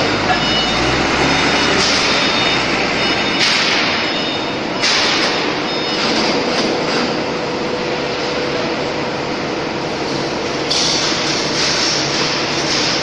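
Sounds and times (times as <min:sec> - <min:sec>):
machinery noise: 0:00.0 - 0:13.0.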